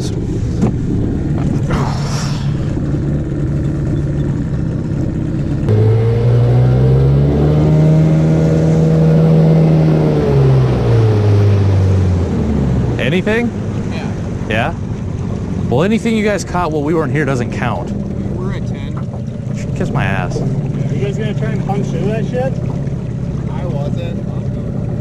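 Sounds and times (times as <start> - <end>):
outboard motor running: 0.0 - 25.0
water noise: 0.0 - 25.0.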